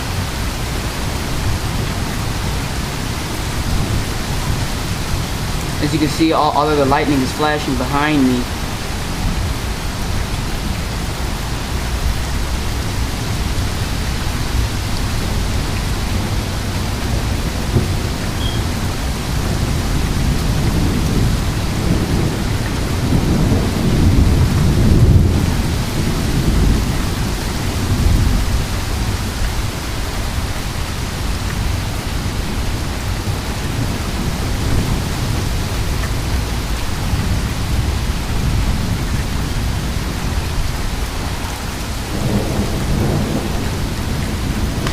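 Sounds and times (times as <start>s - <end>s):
thunder rumbling: 0.0s - 29.8s, 33.2s - 44.9s
heavy rain falling: 0.0s - 44.9s.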